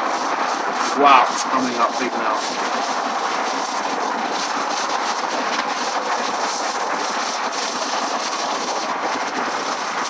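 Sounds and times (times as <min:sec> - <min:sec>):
water gushing from burst main: 0:00.0 - 0:10.0.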